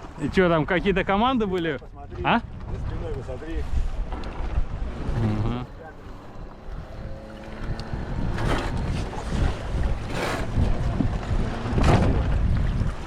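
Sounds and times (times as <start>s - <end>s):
water washing past hulls: 0.0s - 13.0s
wind rumbling on microphone: 0.0s - 13.0s.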